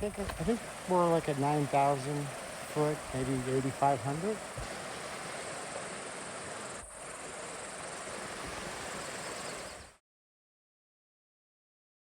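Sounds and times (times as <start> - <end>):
outdoor hiss: 0.0 - 10.0.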